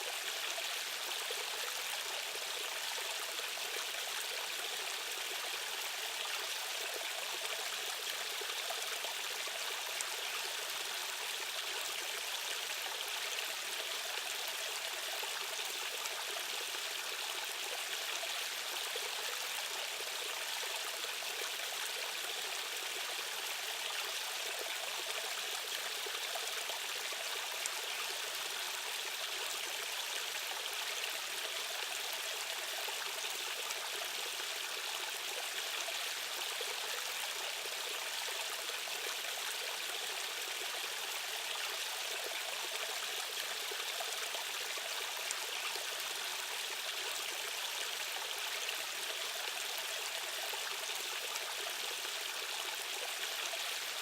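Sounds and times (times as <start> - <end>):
stream of rushing water: 0.0 - 54.0.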